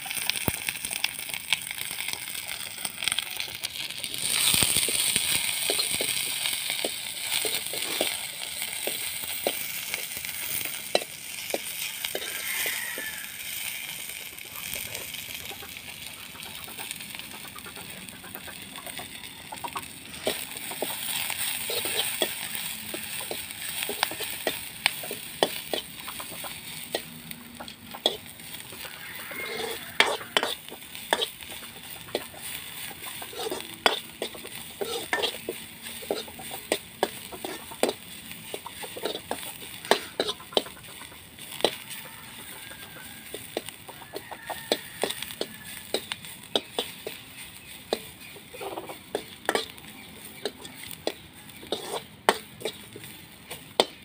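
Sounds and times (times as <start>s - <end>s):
faint frying sizzle: 0.0s - 54.0s
ladle scraping a steel wok: 4.1s - 14.0s, 20.1s - 54.0s.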